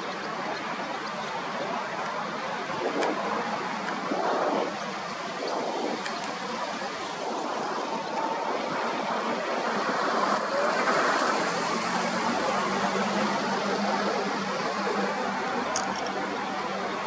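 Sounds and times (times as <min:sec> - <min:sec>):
surf on a beach: 0:00.0 - 0:17.0.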